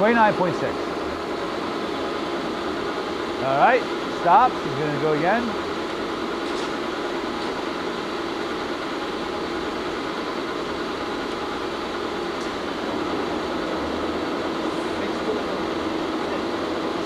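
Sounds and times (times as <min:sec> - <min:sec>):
lathe mechanical hum: 0:00.0 - 0:17.0.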